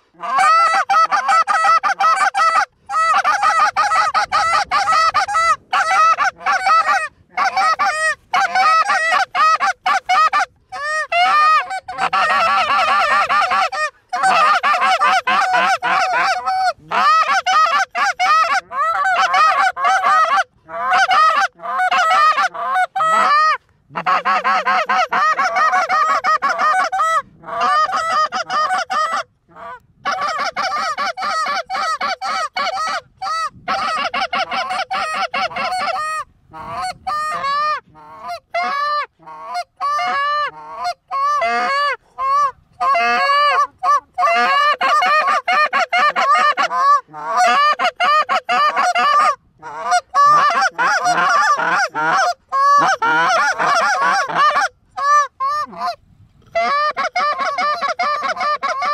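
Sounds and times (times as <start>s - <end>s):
goose honks and clucks: 0.0s - 58.9s.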